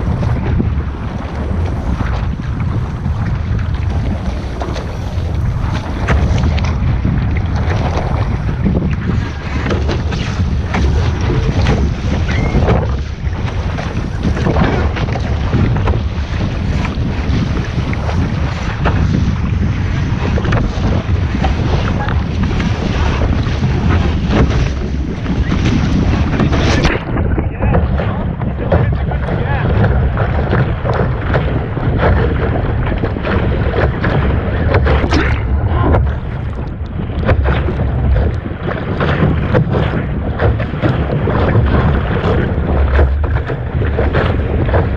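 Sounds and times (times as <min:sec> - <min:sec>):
water splashing: 0:00.0 - 0:44.9
wind buffeting microphone: 0:00.0 - 0:44.9.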